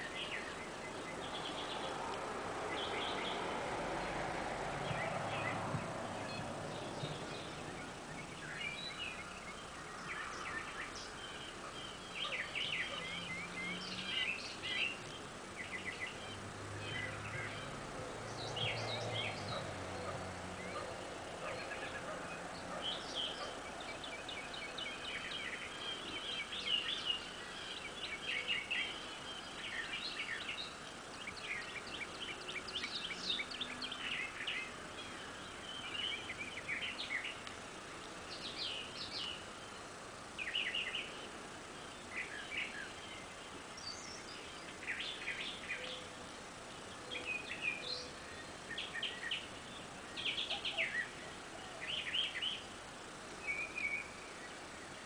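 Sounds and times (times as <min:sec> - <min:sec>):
birds chirping and trilling: 0:00.0 - 0:55.0
steady outdoor hiss: 0:00.0 - 0:55.0.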